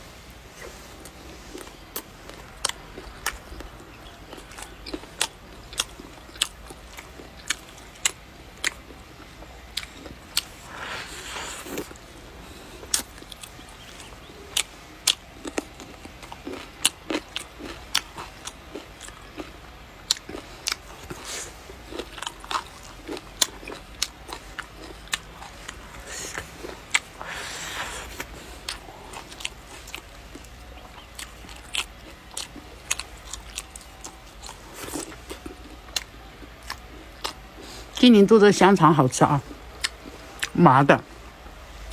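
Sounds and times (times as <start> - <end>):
person chewing food: 0.2 - 38.0, 39.2 - 41.9.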